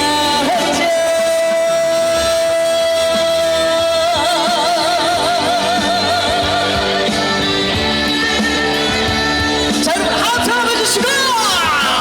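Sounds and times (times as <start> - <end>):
band accompaniment: 0.0 - 12.0
man singing with vibrato: 0.0 - 12.0.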